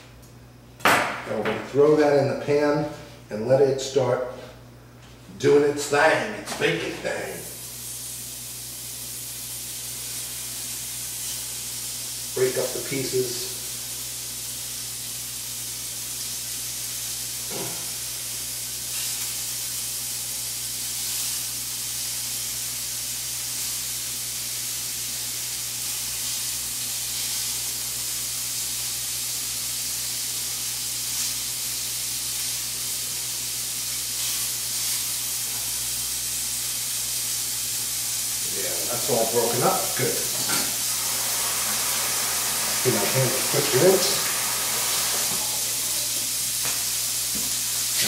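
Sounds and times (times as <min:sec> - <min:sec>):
bacon sizzling in a skillet: 0:07.3 - 0:48.0.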